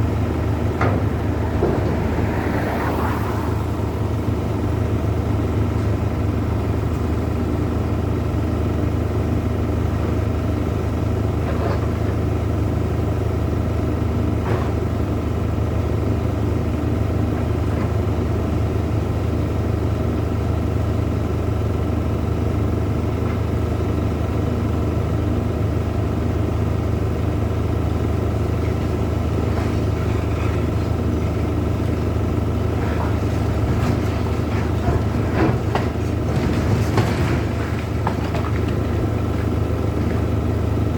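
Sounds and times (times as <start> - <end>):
large engine running: 0.0 - 40.9.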